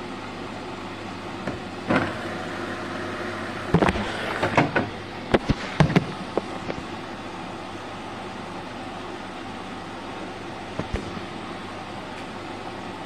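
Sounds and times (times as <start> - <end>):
washing machine running: 0.0 - 13.0.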